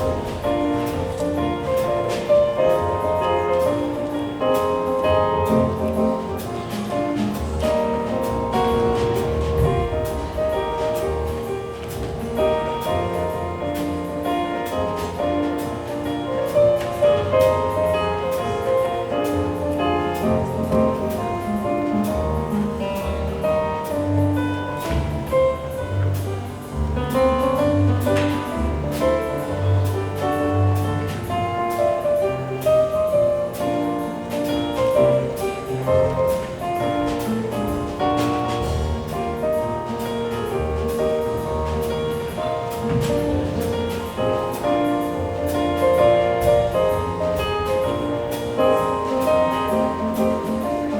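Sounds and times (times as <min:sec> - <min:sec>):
piano accompaniment: 0:00.0 - 0:50.9.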